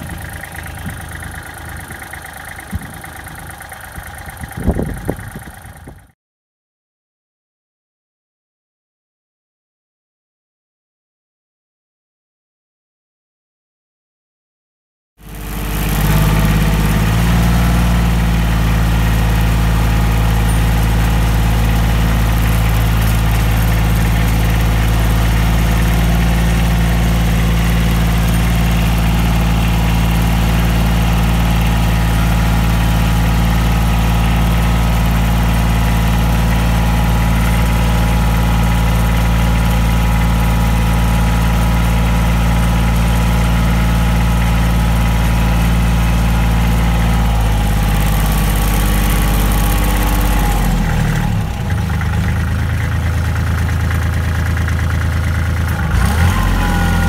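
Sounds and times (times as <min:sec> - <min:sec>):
tractor diesel engine running: 0:00.0 - 0:06.2, 0:15.2 - 0:57.0.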